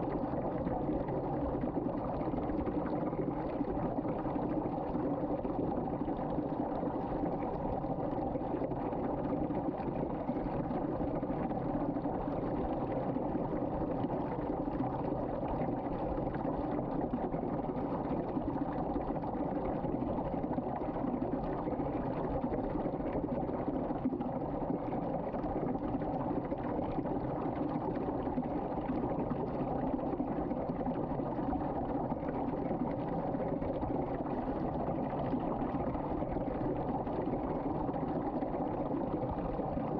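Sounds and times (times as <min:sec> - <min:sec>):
water swirling down drain: 0:00.0 - 0:39.9.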